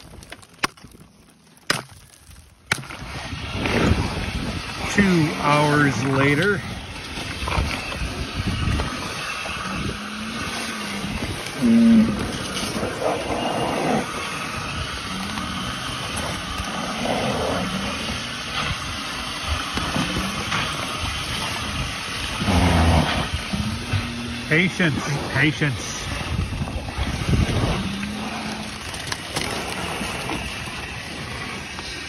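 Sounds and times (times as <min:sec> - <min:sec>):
cattle licking and slurping: 0:02.1 - 0:32.0
wind rumbling on microphone: 0:02.2 - 0:32.0
cattle low vocal sounds: 0:03.4 - 0:31.6.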